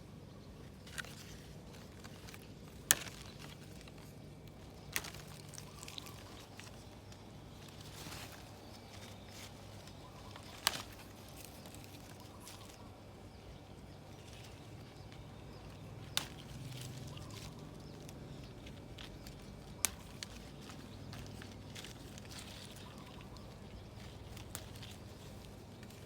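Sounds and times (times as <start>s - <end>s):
faint rustling of leaves: 0.0s - 26.0s
plant shoots snapping: 0.8s - 12.9s, 14.2s - 26.0s.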